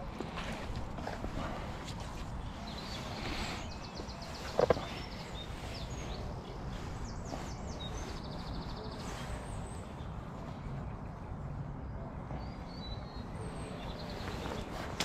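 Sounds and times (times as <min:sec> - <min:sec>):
small birds singing: 0:00.0 - 0:15.0.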